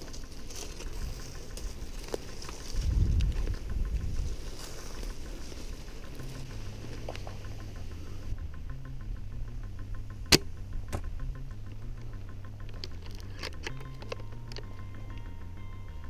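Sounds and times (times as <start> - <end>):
background music with ticking beat: 0.0 - 16.0.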